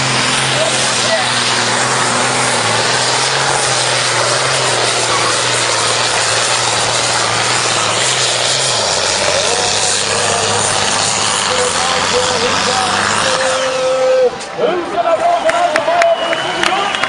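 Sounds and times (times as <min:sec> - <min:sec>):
diesel tractor engine under load: 0:00.0 - 0:16.8.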